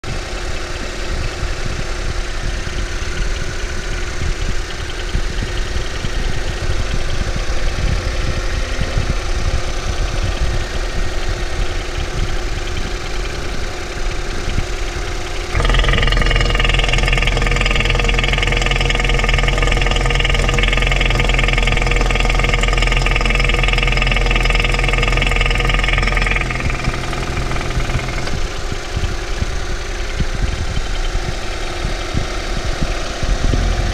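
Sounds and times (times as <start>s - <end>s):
engine hum with high whine: 0.0s - 33.9s
engine knocking: 0.0s - 33.9s.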